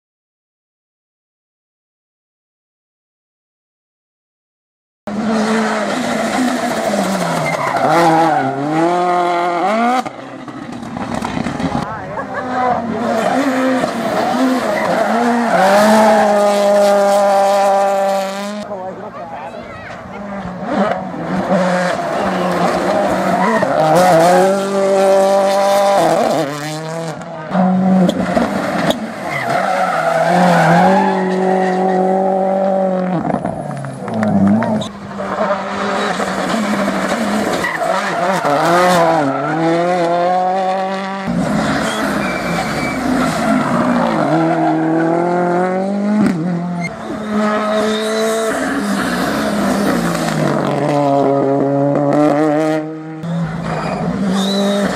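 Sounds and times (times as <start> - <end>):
rally car engine passing: 5.1 - 54.9.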